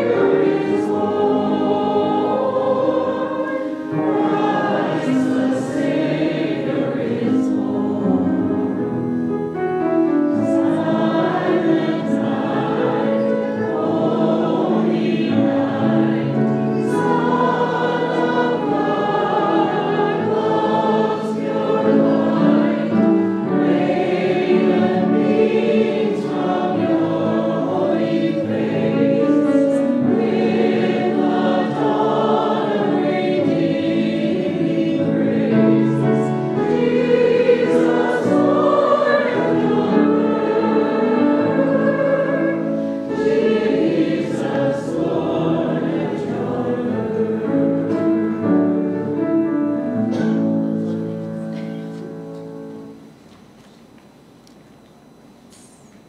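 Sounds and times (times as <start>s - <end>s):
choir singing: 0.0s - 53.0s
instrumental accompaniment: 0.0s - 53.4s.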